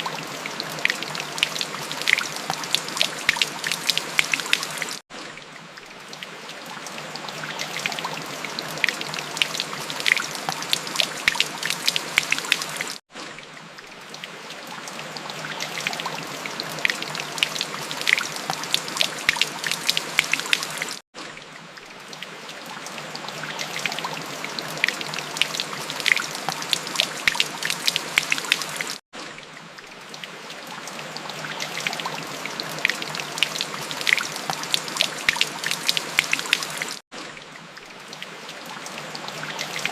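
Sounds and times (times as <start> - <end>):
steady rain drops ticking: 0.0 - 13.0, 16.4 - 23.5, 24.2 - 39.9.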